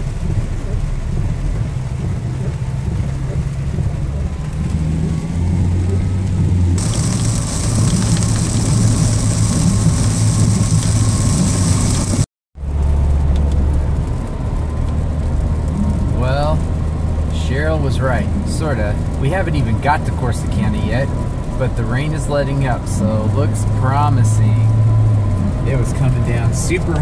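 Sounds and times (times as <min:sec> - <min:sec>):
car road and engine rumble: 0:00.0 - 0:27.0
rain and tyre spray hiss: 0:00.0 - 0:27.0.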